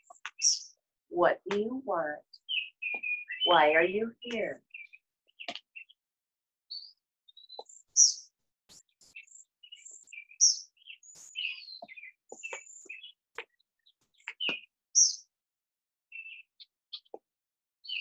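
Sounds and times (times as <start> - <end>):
songbirds chirping and singing: 0.0 - 0.8, 1.5 - 6.0, 6.7 - 15.3, 16.1 - 17.2.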